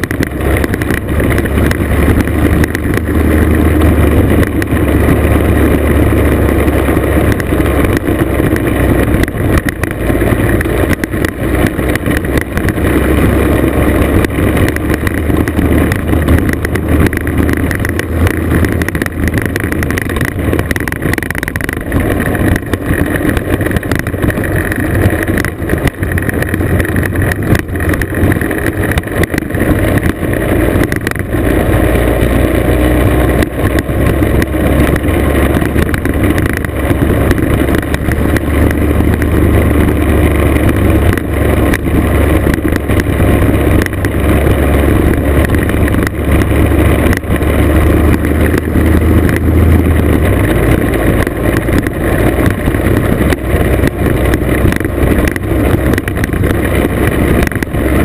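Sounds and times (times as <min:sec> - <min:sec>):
knocks from rough gravel road: 0:00.0 - 0:58.0
road rumble: 0:00.0 - 0:58.0
two-stroke scooter engine: 0:00.0 - 0:58.0.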